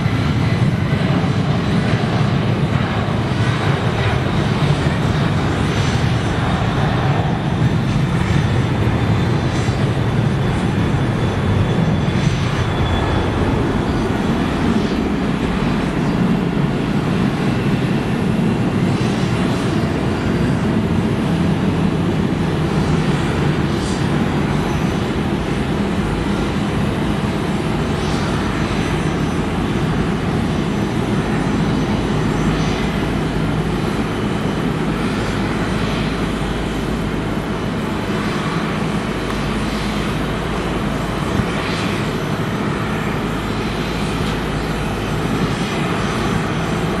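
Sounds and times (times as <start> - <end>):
jet aircraft engine: 0.0 - 47.0.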